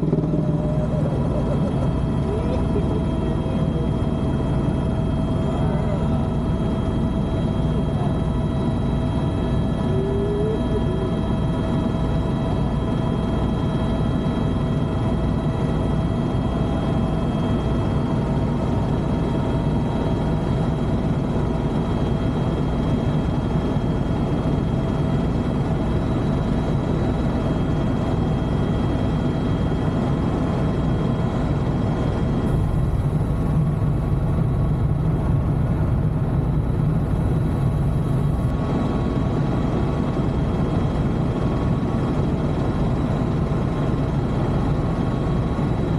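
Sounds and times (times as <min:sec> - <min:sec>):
helicopter rotor and engine drone: 0:00.0 - 0:45.9.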